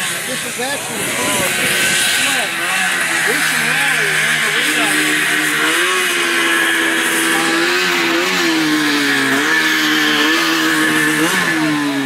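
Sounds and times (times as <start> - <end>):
engine throttle blips: 0.0 - 12.0
snowmobile engine fast idle: 0.0 - 12.0.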